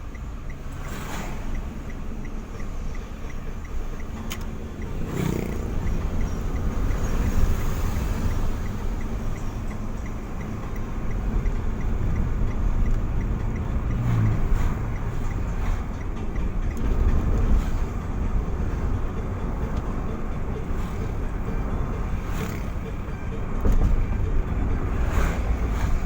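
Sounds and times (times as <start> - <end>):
car engine and road noise: 0.0 - 26.0
faint regular ticking: 0.0 - 26.0.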